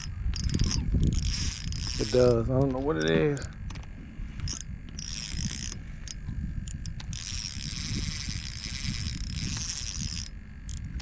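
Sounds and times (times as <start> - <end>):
fishing reel drag buzzing: 0.0 - 3.5, 4.3 - 11.0.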